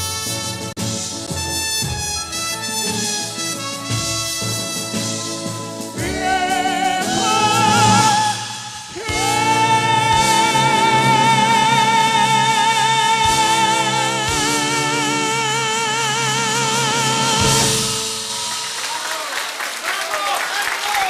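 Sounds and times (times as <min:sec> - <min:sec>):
live band music: 0:00.0 - 0:19.6.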